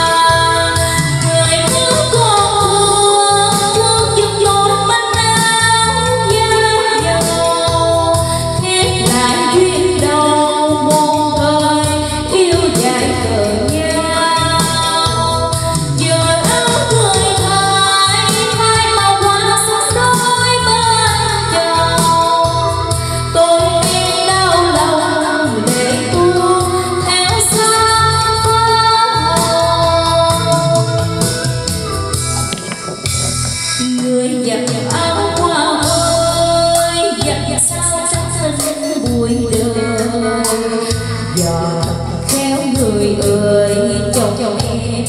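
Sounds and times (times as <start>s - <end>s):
instrumental backing track: 0.0s - 45.0s
woman singing karaoke: 0.0s - 45.0s.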